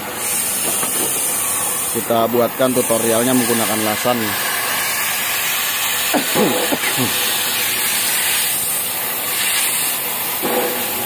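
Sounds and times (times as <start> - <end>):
cutting torch flame hissing: 0.0 - 11.0.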